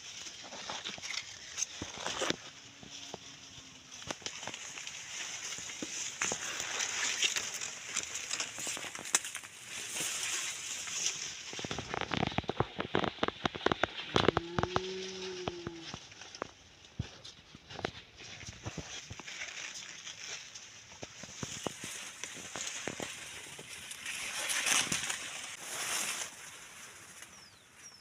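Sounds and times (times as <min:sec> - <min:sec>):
rustling and crackling: 0:00.0 - 0:28.0.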